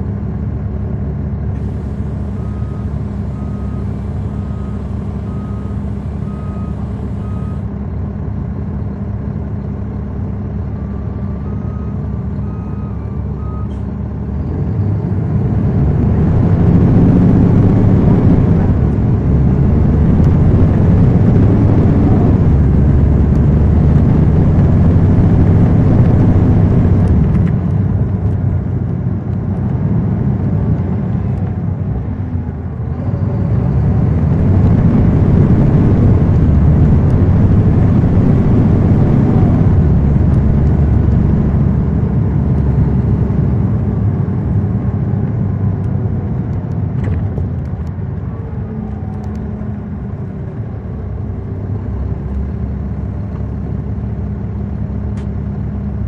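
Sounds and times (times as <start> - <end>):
bus diesel engine rumble: 0.0 - 56.0.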